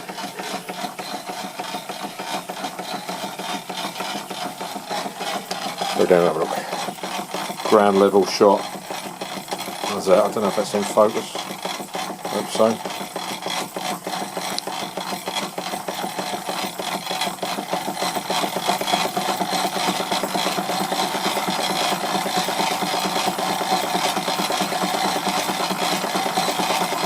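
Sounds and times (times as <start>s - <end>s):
model steam engine mechanical chatter: 0.0s - 27.0s.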